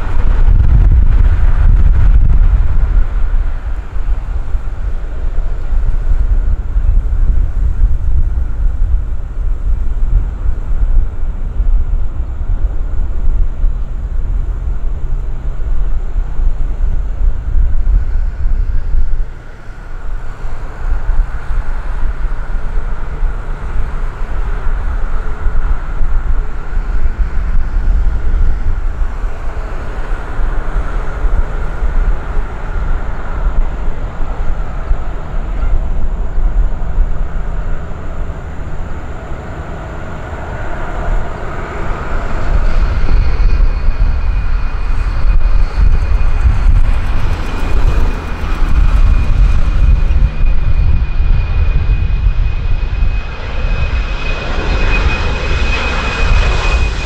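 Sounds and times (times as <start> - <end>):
jet airliner taking off: 0.0 - 57.0
wind buffeting microphone: 0.0 - 57.0.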